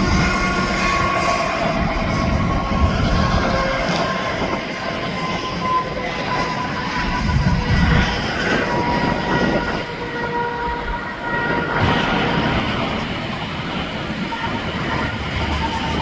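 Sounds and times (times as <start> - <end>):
heavy traffic passing at speed: 0.0 - 16.0.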